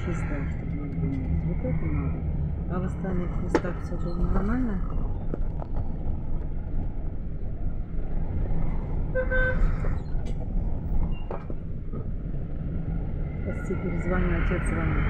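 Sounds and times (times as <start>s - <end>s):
minibus engine and road rumble: 0.0s - 15.0s.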